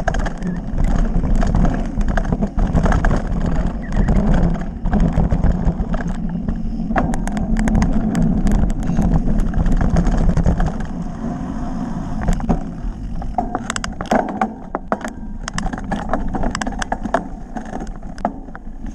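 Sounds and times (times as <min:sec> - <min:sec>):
sharp clicks and rattles: 0:00.0 - 0:11.2, 0:12.2 - 0:18.9
tyres rumbling over rough ground: 0:00.0 - 0:18.9
wind buffeting microphone: 0:00.0 - 0:18.9.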